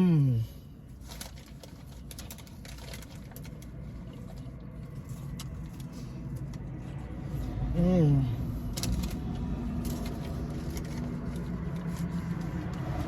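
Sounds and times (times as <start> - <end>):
low steady rumble: 0.0 - 13.0
crispy taco being chewed: 0.8 - 7.7, 8.4 - 13.0.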